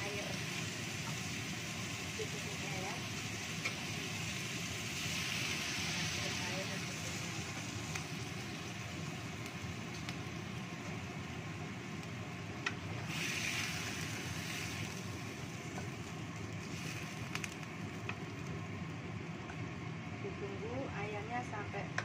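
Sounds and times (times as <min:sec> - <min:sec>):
water simmering in a wok: 0:00.0 - 0:20.2.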